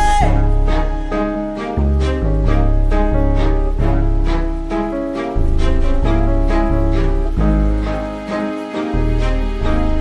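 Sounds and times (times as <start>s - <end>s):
deep bass notes: 0.0s - 8.3s
plucked instrumental music: 0.0s - 10.0s.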